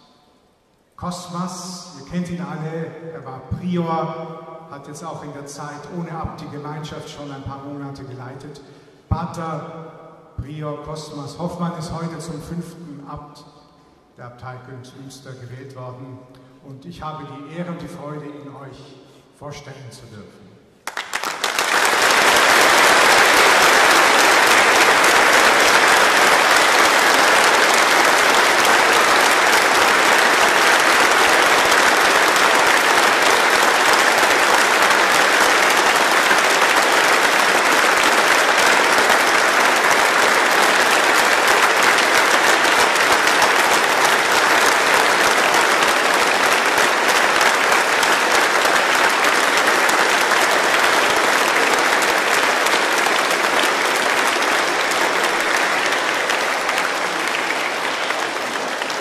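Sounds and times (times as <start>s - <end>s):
congregation applauding: 0.0s - 9.7s, 20.7s - 59.0s.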